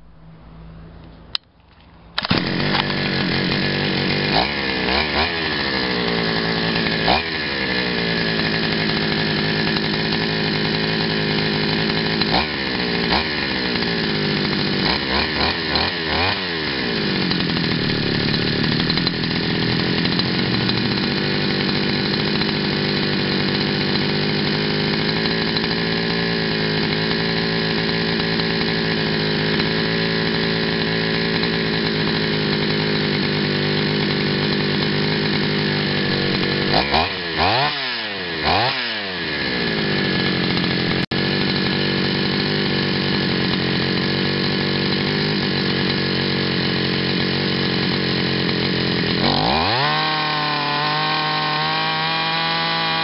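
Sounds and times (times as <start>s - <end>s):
chainsaw engine revving and idling: 2.2s - 53.0s.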